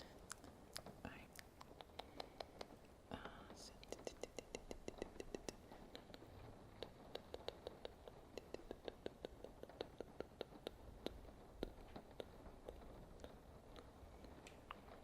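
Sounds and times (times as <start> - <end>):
background rain hiss: 0.0 - 15.0.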